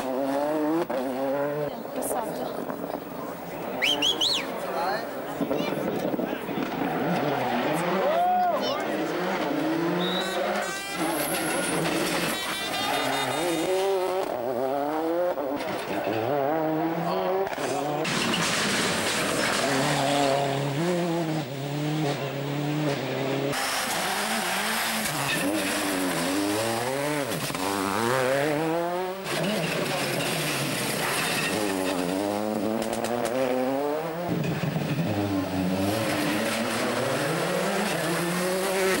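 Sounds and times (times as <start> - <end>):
rally cars passing at speed: 0.0 - 39.0.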